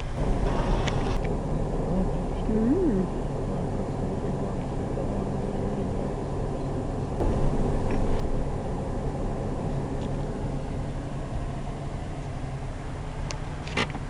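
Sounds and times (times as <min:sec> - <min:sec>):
car engine hum: 0:00.0 - 0:14.0.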